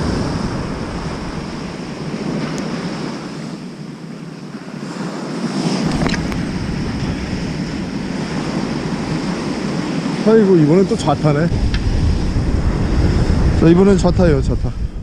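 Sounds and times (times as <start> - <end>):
surf breaking on beach: 0.0 - 3.7, 4.6 - 15.0
wind buffeting microphone: 0.0 - 4.1, 4.8 - 15.0.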